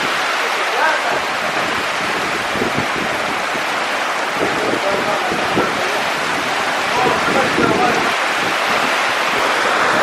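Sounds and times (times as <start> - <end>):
heavy rain downpour: 0.0 - 10.0.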